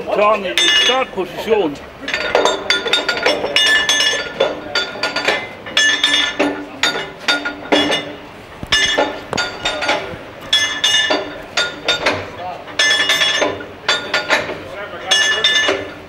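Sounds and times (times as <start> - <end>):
ringing metallic clinks: 0.6 - 1.1, 2.0 - 12.2, 12.8 - 16.0.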